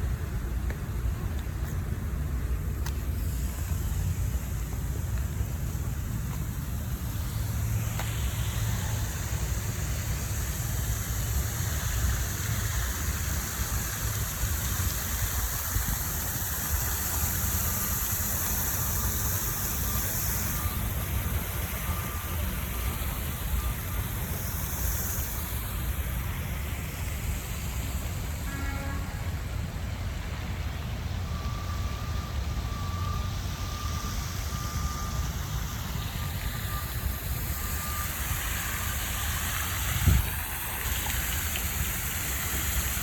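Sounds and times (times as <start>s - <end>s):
distant road traffic rumble: 0.0s - 43.0s
high steady hiss: 0.0s - 43.0s.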